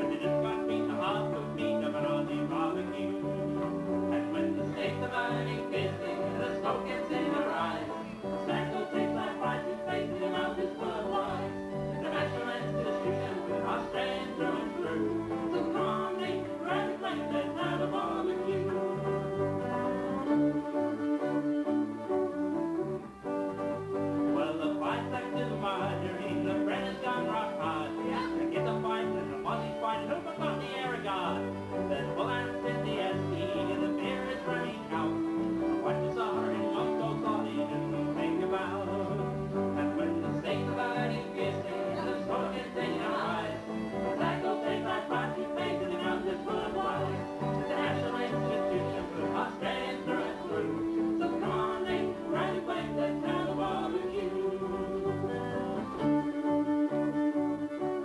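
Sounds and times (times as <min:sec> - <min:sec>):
electric and acoustic guitars: 0:00.0 - 0:58.0
fiddles bowing tune: 0:00.0 - 0:58.0.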